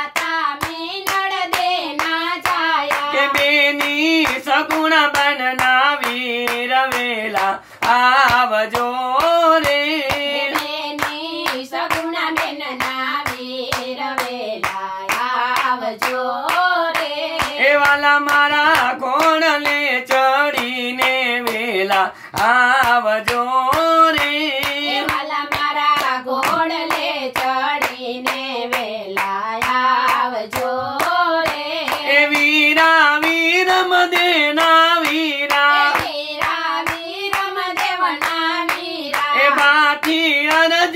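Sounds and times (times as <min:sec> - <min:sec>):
group singing devotional song: 0:00.0 - 0:40.9
rhythmic hand claps: 0:00.0 - 0:40.9.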